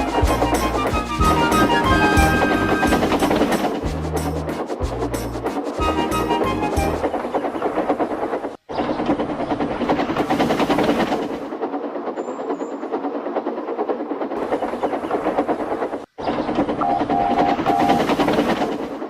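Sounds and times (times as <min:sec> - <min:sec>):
train clattering: 0:00.0 - 0:19.0.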